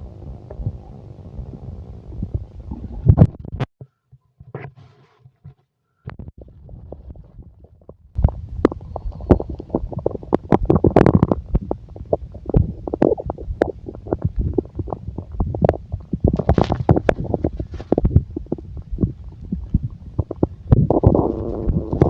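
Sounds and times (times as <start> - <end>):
stomach growling: 0.0 - 3.7, 6.1 - 22.0.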